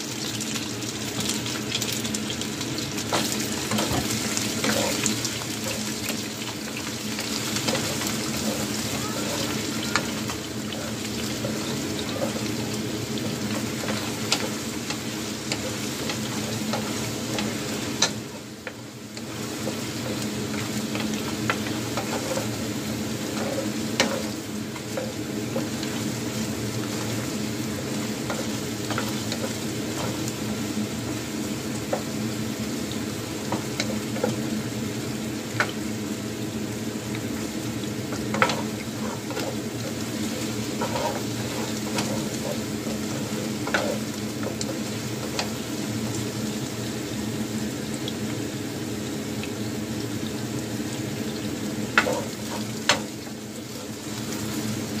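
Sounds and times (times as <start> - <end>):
chicken wings sizzling in a pan: 0.0 - 55.0.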